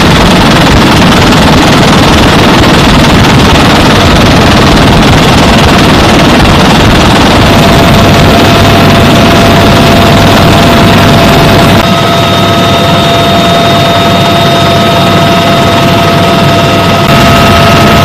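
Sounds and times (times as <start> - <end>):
helicopter rotor and turbine noise: 0.0 - 18.0
thin steady whine: 0.0 - 18.0.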